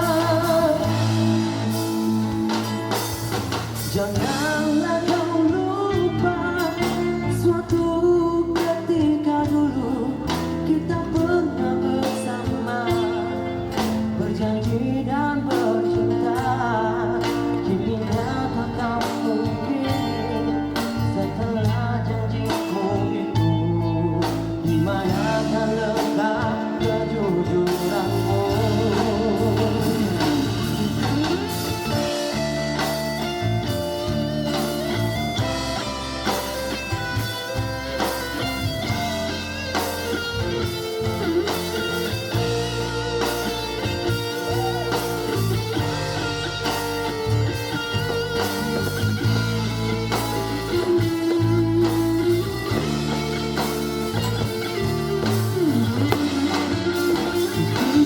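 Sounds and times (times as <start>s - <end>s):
bass and rhythm accompaniment: 0.0s - 58.0s
electric guitar lead with bent notes: 0.0s - 58.0s.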